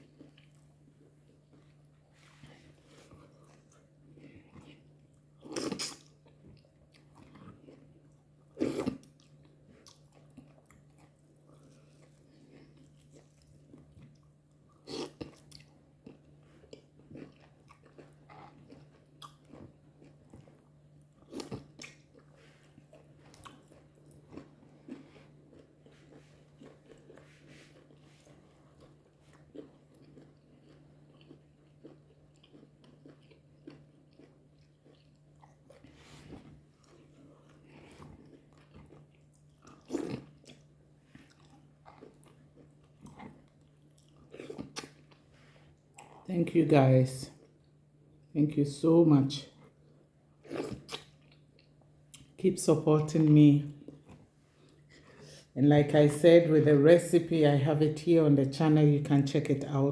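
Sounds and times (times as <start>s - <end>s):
person chewing food: 0.0s - 46.3s, 49.5s - 52.4s, 53.7s - 55.6s.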